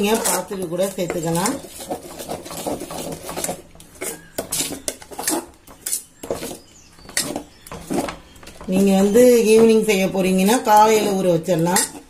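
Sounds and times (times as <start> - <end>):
spoon scraping metal bowl: 0.0 - 12.0.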